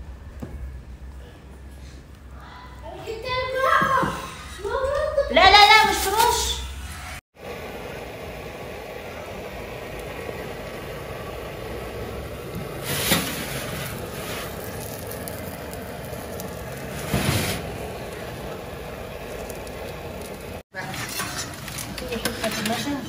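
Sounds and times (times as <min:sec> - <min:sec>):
gas burner hissing: 0:00.0 - 0:23.0.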